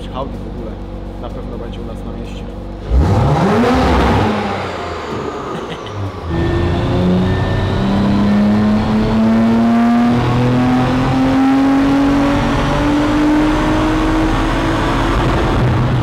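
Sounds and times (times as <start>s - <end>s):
car engine revving under load: 0.0s - 16.0s.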